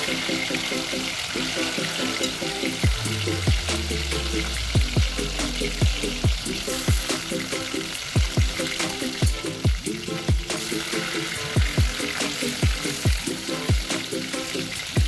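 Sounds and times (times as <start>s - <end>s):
chicken sizzling in hot oil: 0.0s - 15.0s
background music with kick drums: 2.2s - 15.0s.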